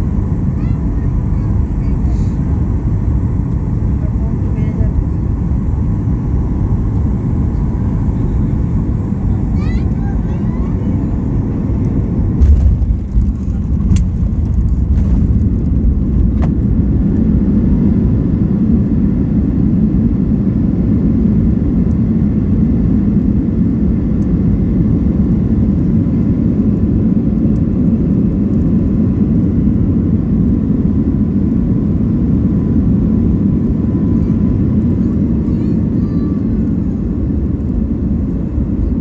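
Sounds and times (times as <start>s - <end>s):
jet engines low rumble: 0.0s - 39.0s.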